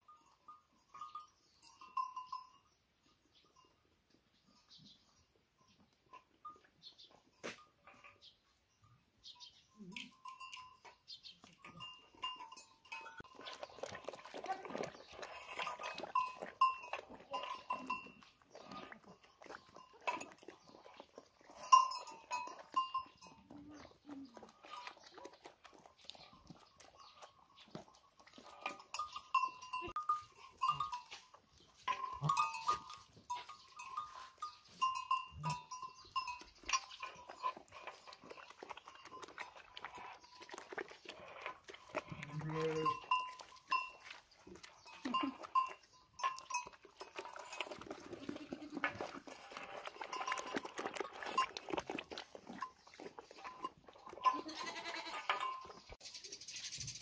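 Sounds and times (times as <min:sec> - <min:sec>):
goat bells clinking: 0:00.0 - 0:57.0.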